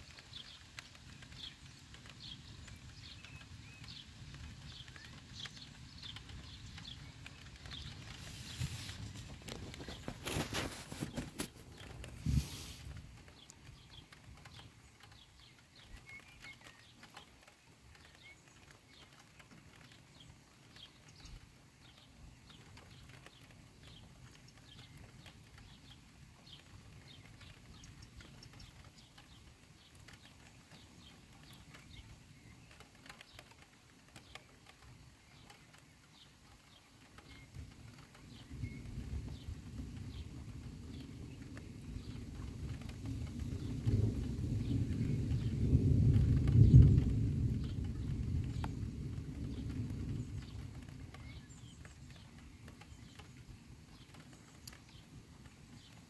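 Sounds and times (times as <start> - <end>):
raindrops ticking on a surface: 0.0 - 56.0.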